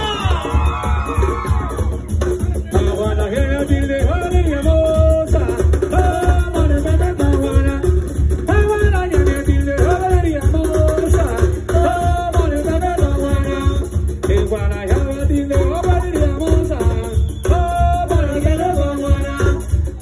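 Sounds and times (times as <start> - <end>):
congas: 0.0 - 20.0
live band playing dance music: 0.0 - 20.0.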